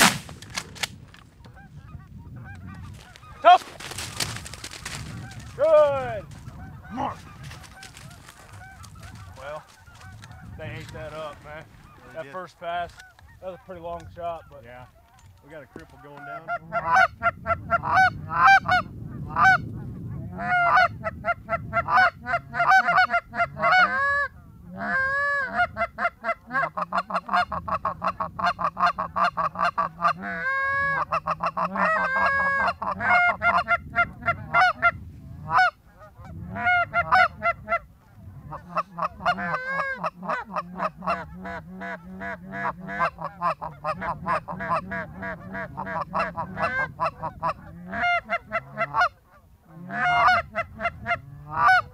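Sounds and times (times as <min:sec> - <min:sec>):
geese honking and clucking: 0:00.0 - 0:51.9.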